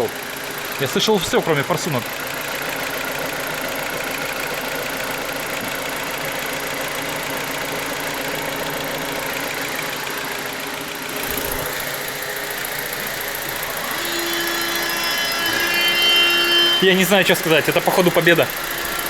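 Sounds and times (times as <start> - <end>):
engine idling: 0.0 - 19.0
fuel injectors ticking: 0.0 - 19.0.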